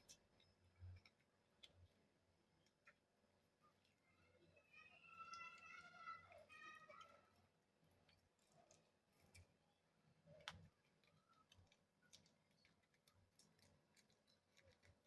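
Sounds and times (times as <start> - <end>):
faint ticks and clicks: 0.0 - 15.0.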